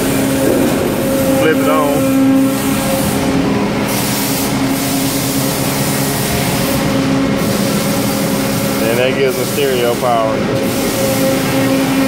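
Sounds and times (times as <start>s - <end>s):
machinery hum and rushing: 0.0s - 12.0s.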